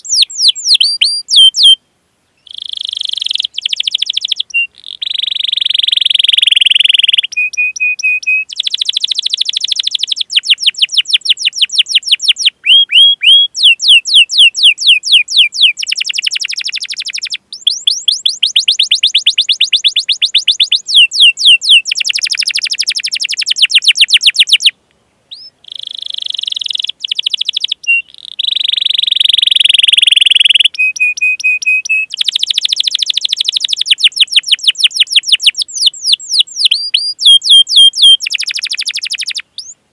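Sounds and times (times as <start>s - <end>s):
canary singing: 0.0s - 1.8s, 2.4s - 39.8s.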